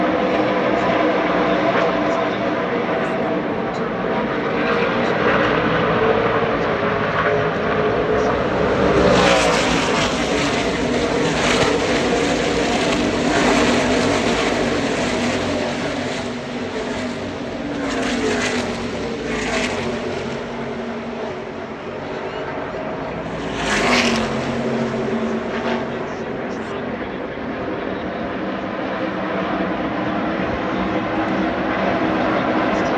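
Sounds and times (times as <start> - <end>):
racing trucks passing at full throttle: 0.0 - 32.9.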